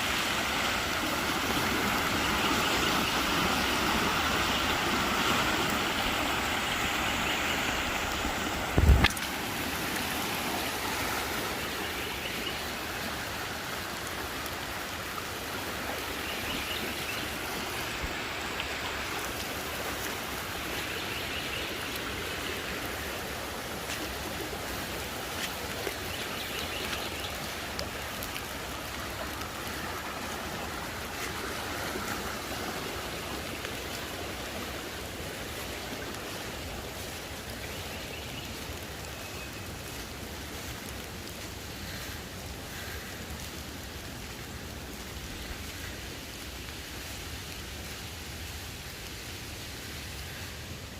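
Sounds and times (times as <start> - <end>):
creek rushing: 0.0 - 50.9.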